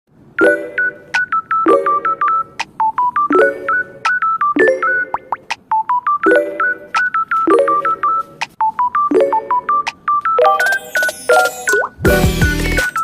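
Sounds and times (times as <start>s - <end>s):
upbeat synth tune: 0.4s - 13.0s.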